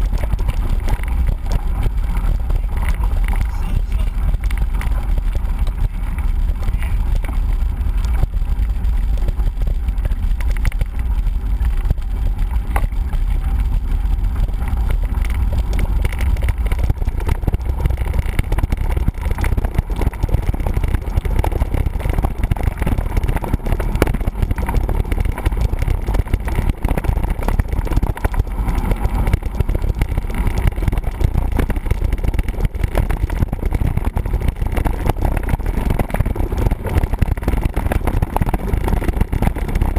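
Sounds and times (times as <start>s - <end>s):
bike clattering over rough ground: 0.0s - 39.9s
wind rumble on microphone: 0.0s - 39.9s.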